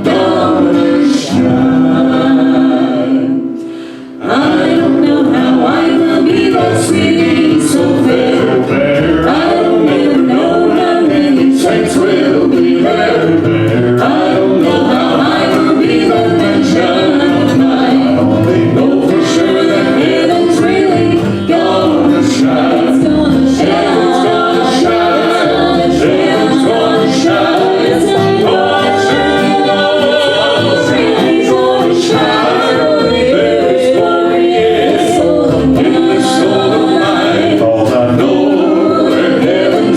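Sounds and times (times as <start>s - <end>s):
instrumental accompaniment: 0.0s - 39.9s
vocal group singing in harmony: 0.0s - 39.9s.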